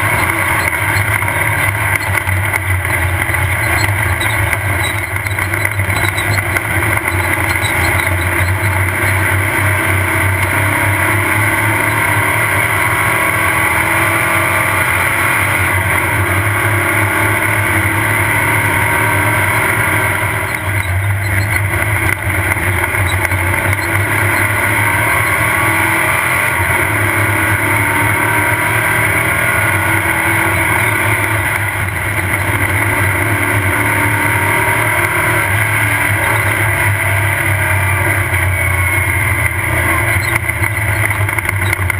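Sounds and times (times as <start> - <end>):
race buggy engine drone: 0.0 - 41.9.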